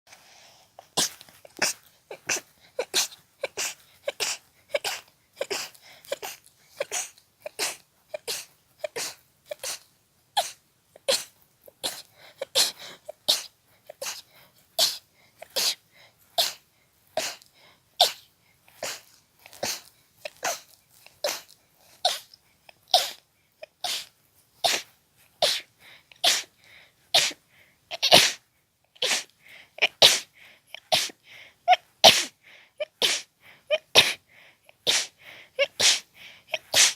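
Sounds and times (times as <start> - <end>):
person sneezing rapidly: 0.8 - 16.6, 17.2 - 17.4, 18.0 - 18.2, 18.8 - 22.3, 22.9 - 23.2, 23.8 - 28.4, 29.0 - 36.9.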